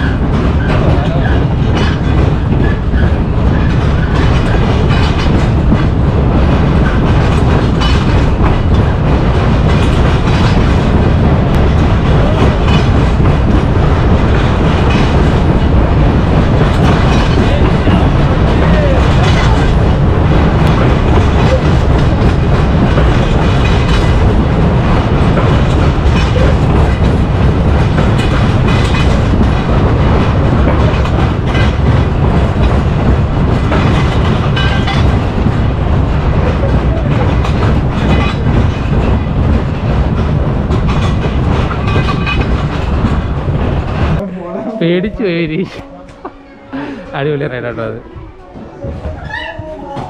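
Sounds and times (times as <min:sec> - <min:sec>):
amusement ride rumbling: 0:00.0 - 0:50.0.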